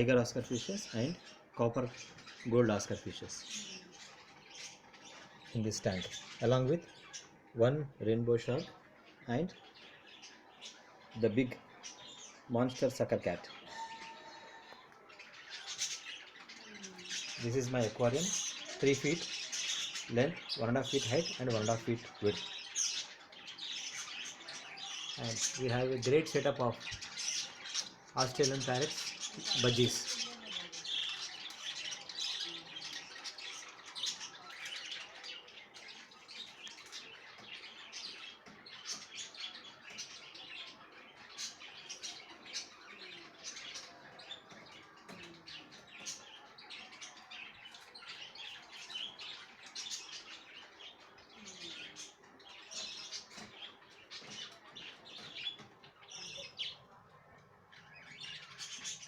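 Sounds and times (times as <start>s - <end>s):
budgies chirping and chattering: 0.0s - 59.0s.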